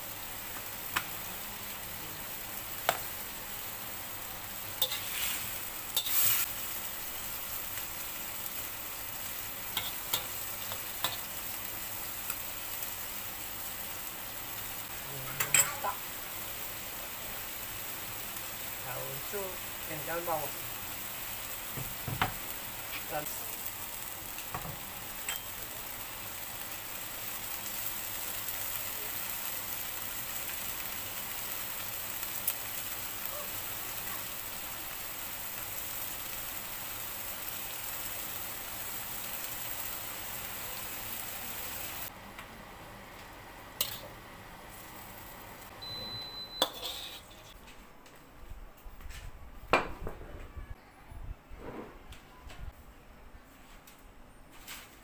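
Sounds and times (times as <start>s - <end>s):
vegetables sizzling in a wok: 0.0s - 47.6s.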